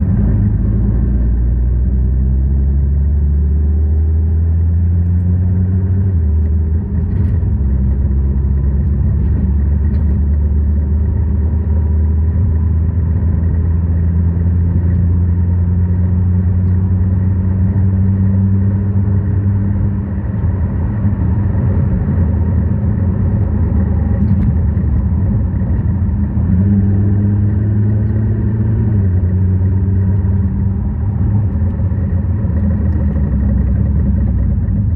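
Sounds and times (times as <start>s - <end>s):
car engine low rumble: 0.0s - 34.9s.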